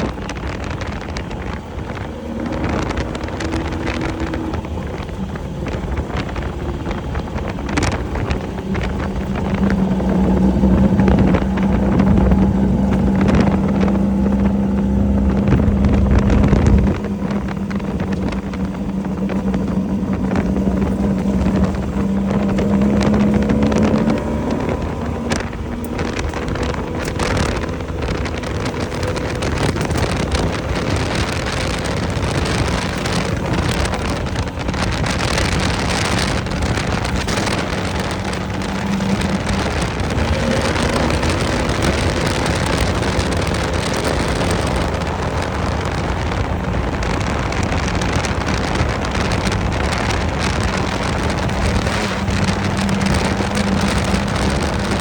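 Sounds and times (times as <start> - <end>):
vehicle engine at speed: 0.0 - 55.0
vehicle rattles and knocks: 0.0 - 55.0
wind buffeting microphone: 0.0 - 55.0.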